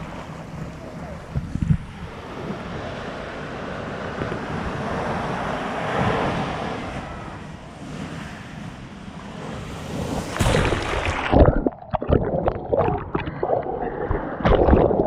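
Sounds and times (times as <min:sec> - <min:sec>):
ocean surf on a beach: 0:00.0 - 0:12.1
wind buffeting microphone: 0:00.0 - 0:15.0.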